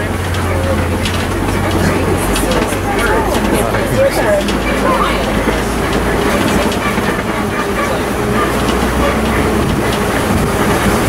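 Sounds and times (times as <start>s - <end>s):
truck body rattling: 0.0s - 11.0s
truck engine and road noise: 0.0s - 11.0s.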